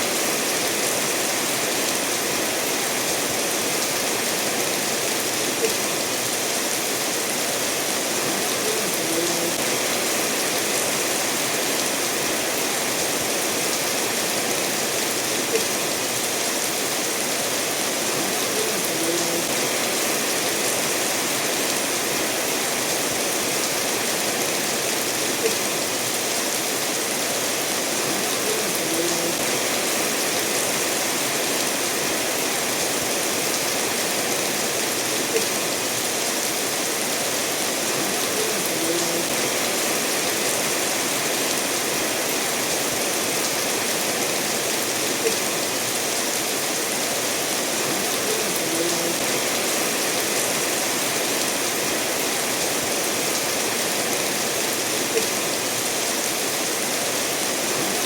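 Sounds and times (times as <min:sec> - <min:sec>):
steady rainfall: 0:00.0 - 0:58.0
stream flowing over stones: 0:00.0 - 0:58.0.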